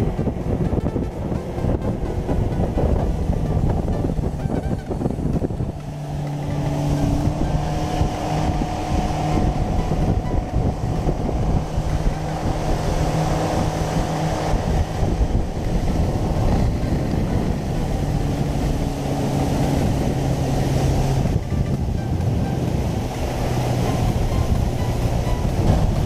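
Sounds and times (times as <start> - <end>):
outboard motor running: 0.0 - 26.0
water rushing along hull: 0.0 - 26.0
wind buffeting microphone: 0.0 - 26.0.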